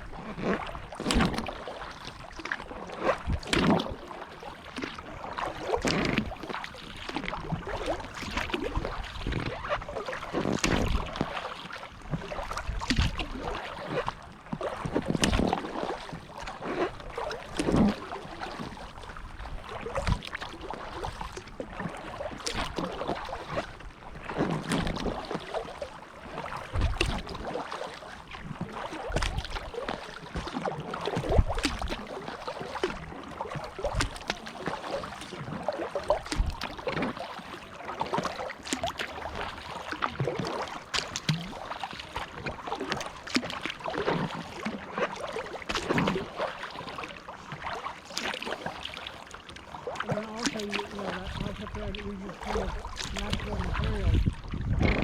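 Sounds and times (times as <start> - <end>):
paddle splashing in water: 0.0 - 55.0
water washing around hull: 0.0 - 55.0.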